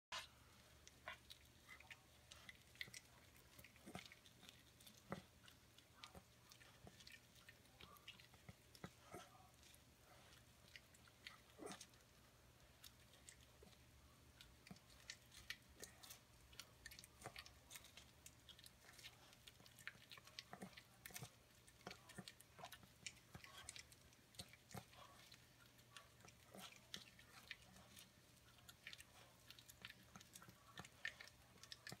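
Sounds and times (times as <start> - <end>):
dog gnawing corn on the cob: 0.2 - 32.0.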